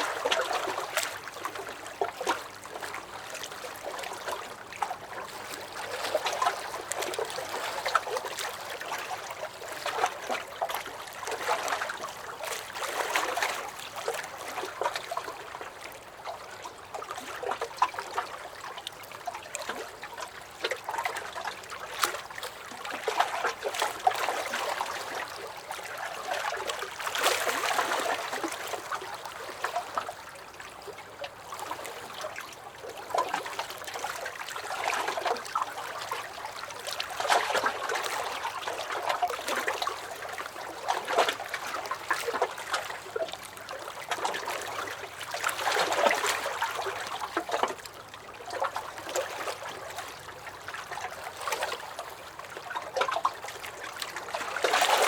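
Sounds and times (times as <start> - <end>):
waves lapping against a dock: 0.0 - 55.0.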